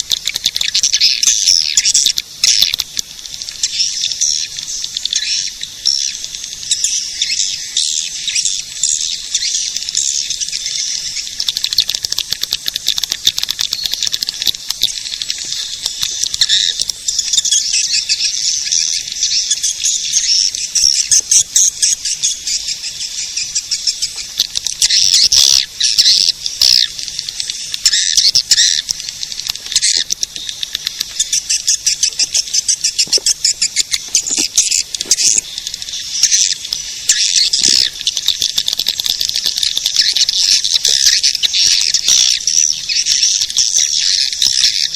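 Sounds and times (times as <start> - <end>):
swiftlets twittering chirps: 0.0 - 44.9.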